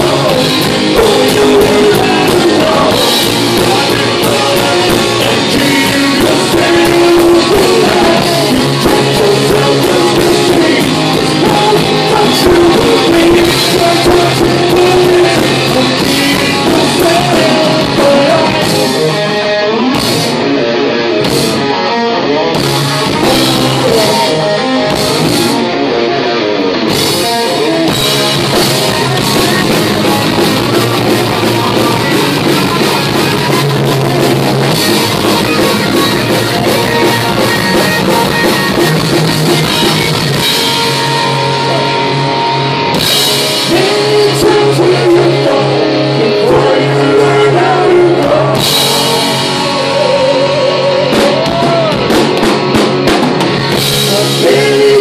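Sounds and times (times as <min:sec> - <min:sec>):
person singing: 0:00.0 - 0:26.1, 0:26.9 - 0:42.4, 0:43.2 - 0:52.3, 0:53.7 - 0:55.0
live rock band playing: 0:00.0 - 0:55.0.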